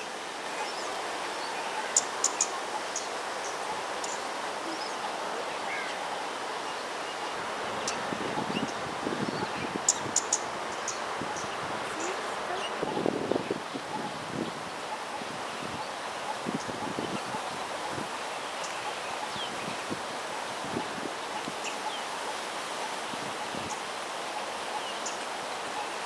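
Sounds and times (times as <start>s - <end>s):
outdoor park background noise: 0.0s - 26.0s
rustling leaves: 0.0s - 26.0s
wind: 0.0s - 26.0s.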